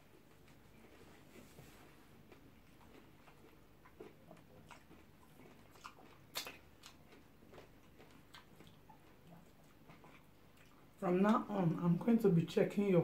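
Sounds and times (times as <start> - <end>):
soft chewing and mouth smacks: 0.0 - 11.5.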